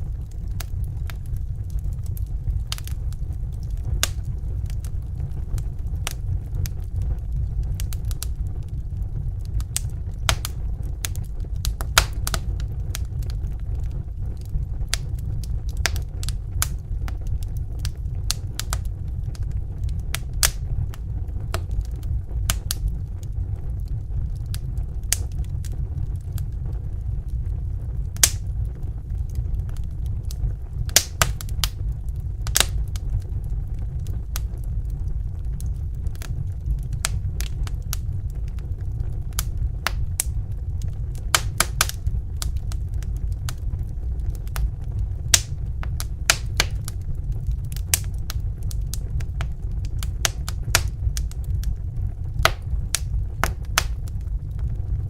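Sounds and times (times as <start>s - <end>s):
fire crackling and popping: 0.0s - 55.0s
fire rumbling: 0.0s - 55.0s.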